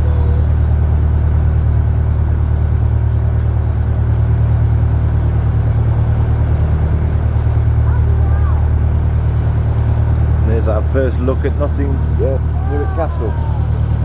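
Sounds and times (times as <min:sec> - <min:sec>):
boat diesel engine running: 0:00.0 - 0:14.0.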